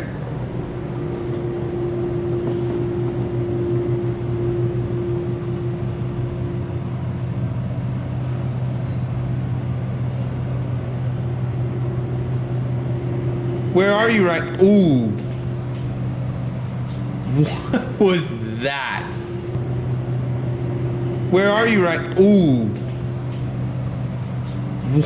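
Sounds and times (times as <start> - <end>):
high steady tone: 0.0 - 25.0
machine hum: 0.0 - 25.0.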